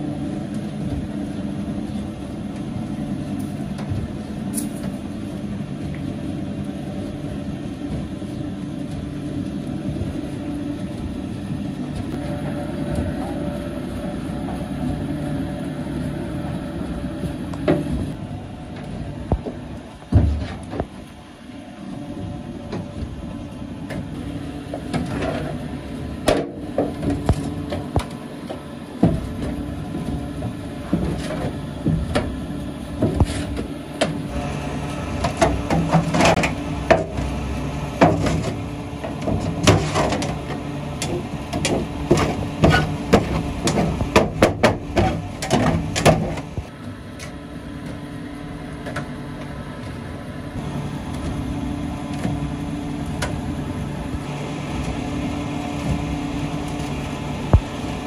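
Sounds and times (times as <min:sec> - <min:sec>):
paddle mixer humming: 0:00.0 - 0:58.0.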